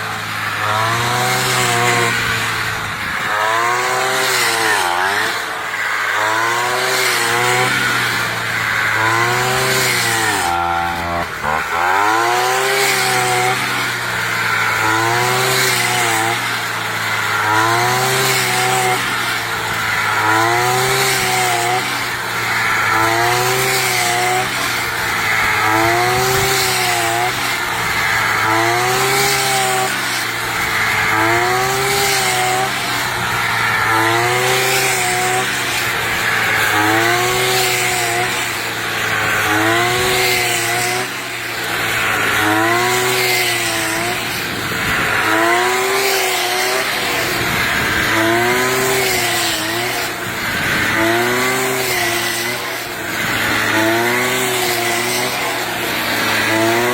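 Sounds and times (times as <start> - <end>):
brush cutter engine: 0.0 - 56.9.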